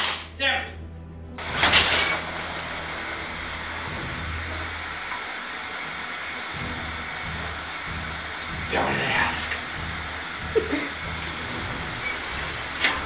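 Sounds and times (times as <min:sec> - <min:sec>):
low hum: 0:00.1 - 0:13.0
water running into bathtub: 0:01.4 - 0:13.0.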